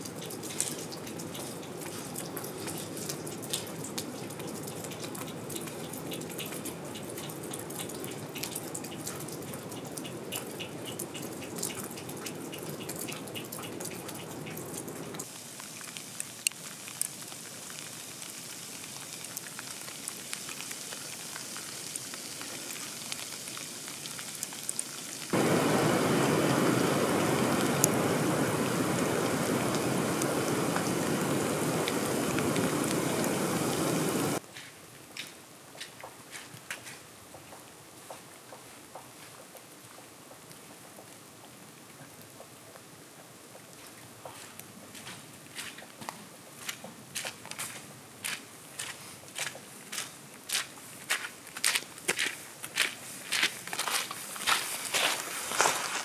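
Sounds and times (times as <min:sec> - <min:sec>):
rain falling in forest: 0:00.0 - 0:56.0.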